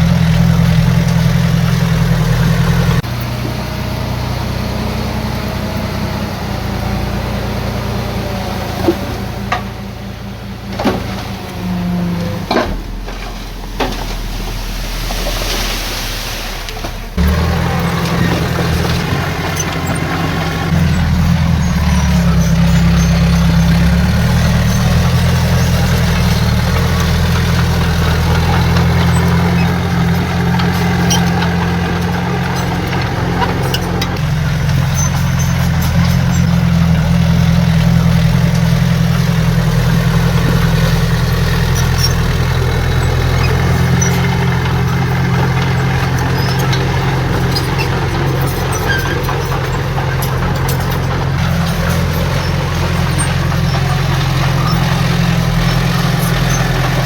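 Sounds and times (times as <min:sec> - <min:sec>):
heavy diesel machine engine drone: 0:00.0 - 0:57.0.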